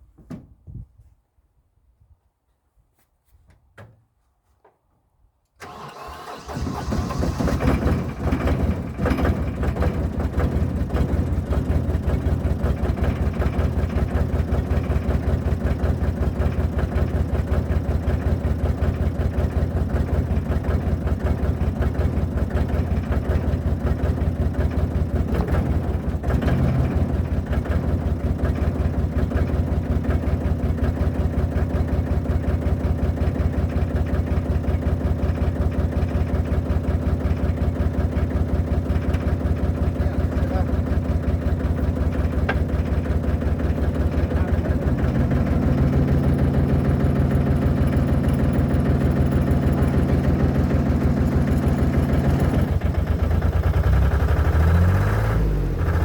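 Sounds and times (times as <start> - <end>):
diesel engine starting and idling: 5.6 - 56.0.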